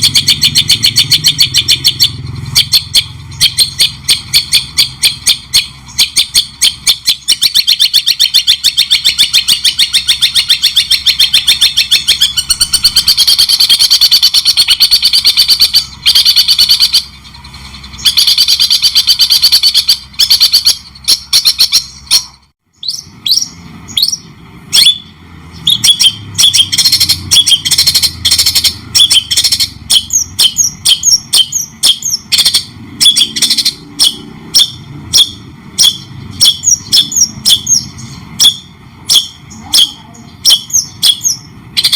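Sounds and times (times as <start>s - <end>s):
songbird chirping: 0.0s - 41.9s.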